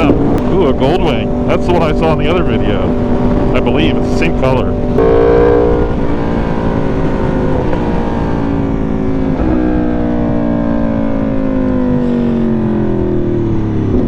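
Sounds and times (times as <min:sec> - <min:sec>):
motorcycle engine decelerating: 0:00.0 - 0:14.0.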